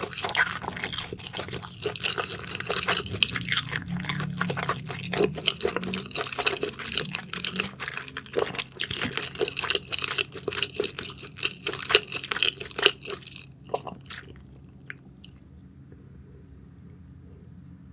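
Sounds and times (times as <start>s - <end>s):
wet chewing and mouth smacking: 0.0s - 15.5s.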